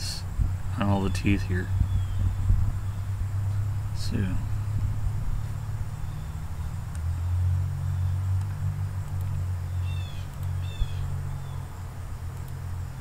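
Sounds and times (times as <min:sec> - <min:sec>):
low background rumble: 0:00.0 - 0:13.0
bird chirping: 0:00.8 - 0:13.0.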